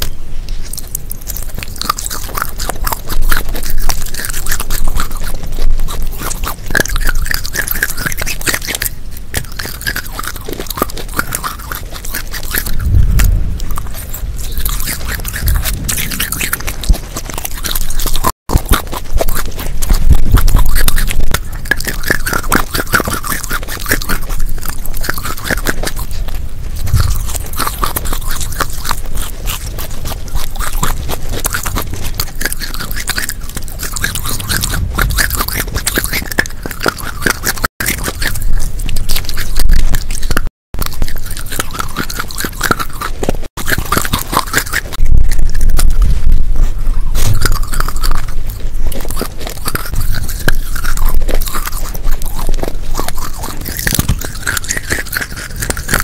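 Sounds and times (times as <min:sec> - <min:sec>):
crunchy wafer biting and chewing: 0:00.0 - 0:56.0.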